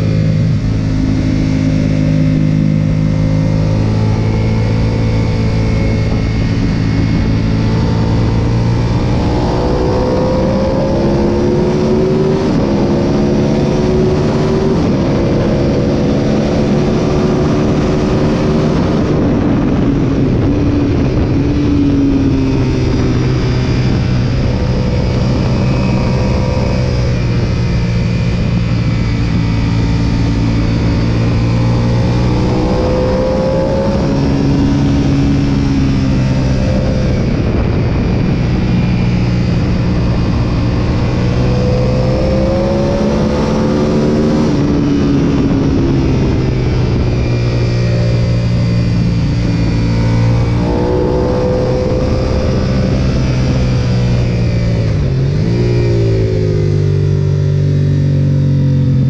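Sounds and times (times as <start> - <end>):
motorcycle engine revving high: 0.0 - 59.0.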